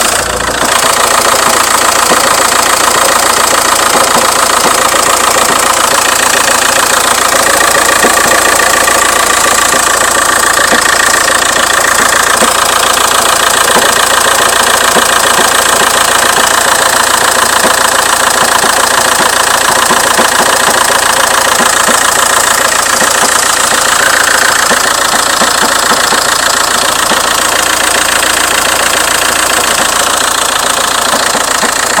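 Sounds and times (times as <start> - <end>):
diesel engine idling: 0.0 - 32.0
engine knocking: 0.0 - 32.0.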